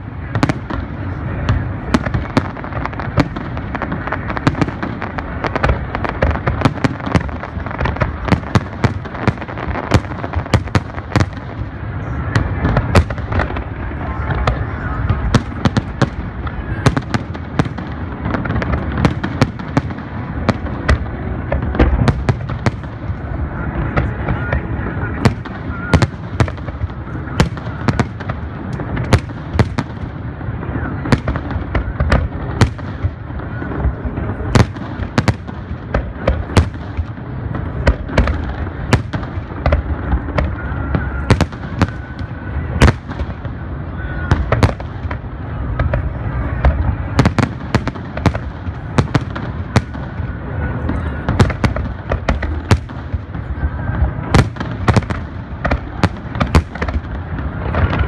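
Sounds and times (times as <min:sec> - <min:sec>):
fireworks bangs: 0:00.0 - 0:58.0
low rumble and crackle: 0:00.0 - 0:58.0.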